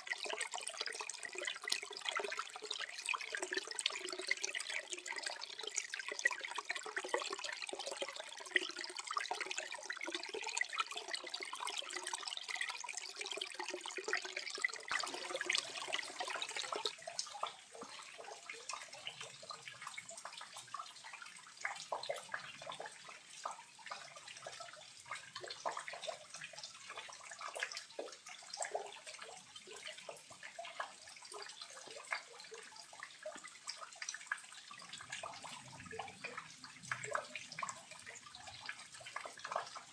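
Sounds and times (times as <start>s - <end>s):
small waterfall trickling and splashing: 0.0s - 39.9s.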